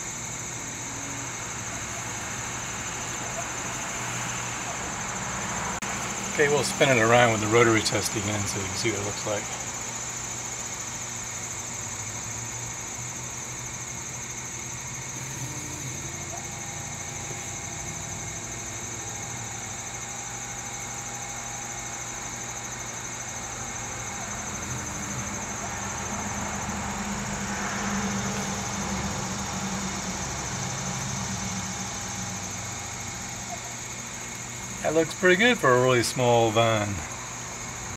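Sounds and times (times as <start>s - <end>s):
machine hum with high whine: 0.0s - 37.9s
stepper motor thin whine: 0.0s - 37.9s.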